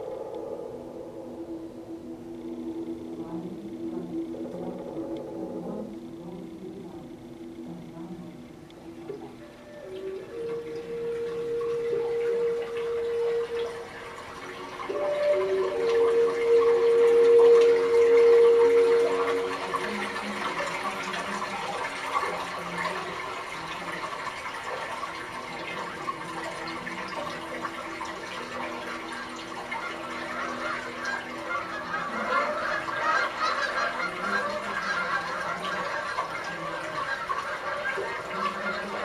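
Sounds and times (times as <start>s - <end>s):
long steady tones: 0.0s - 39.0s
running water splashing: 0.0s - 39.0s.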